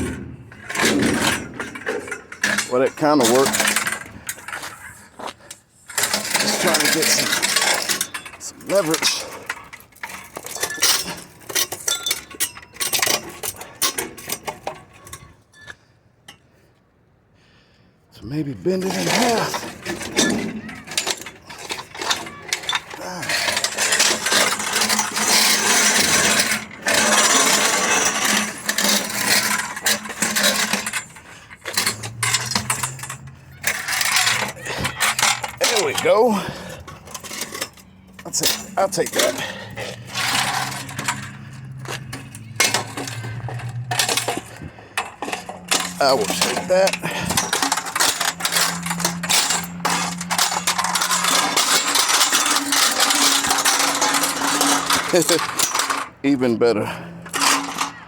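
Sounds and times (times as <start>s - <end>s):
sheet metal crinkling and creaking: 0.0s - 15.8s, 18.4s - 58.0s.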